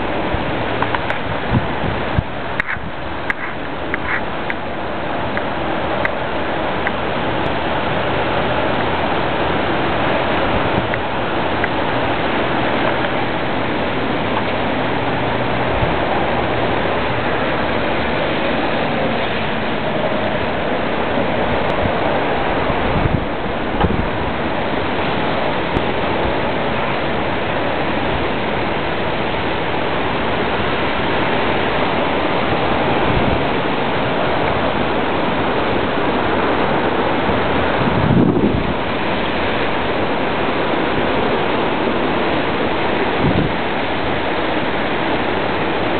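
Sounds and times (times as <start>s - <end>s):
rain: 0.0s - 45.9s
storm wind: 0.0s - 45.9s.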